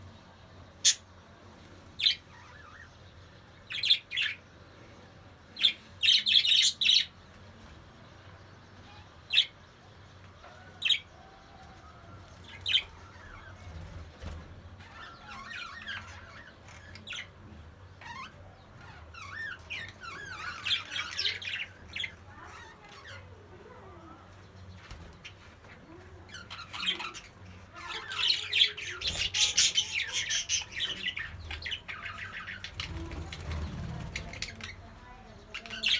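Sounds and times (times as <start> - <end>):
budgerigars squawking and chirping: 0.8 - 1.1, 2.0 - 4.5, 5.5 - 7.2, 8.8 - 9.6, 10.4 - 23.8, 24.6 - 35.9
budgerigars warbling song: 0.8 - 1.1, 2.0 - 4.5, 5.5 - 7.2, 8.8 - 9.6, 10.4 - 23.4, 24.6 - 35.9.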